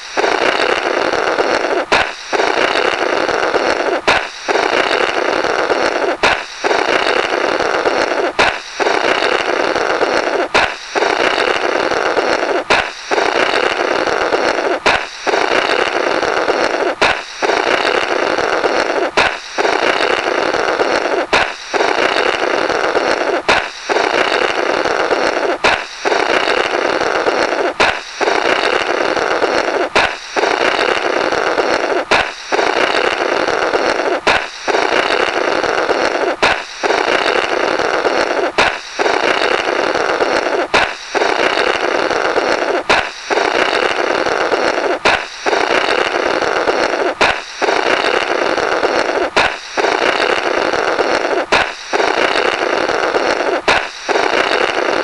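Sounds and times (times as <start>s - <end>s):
cartoon balloon pop: 0.0s - 55.0s
spluttering blow through balloon: 0.0s - 55.0s.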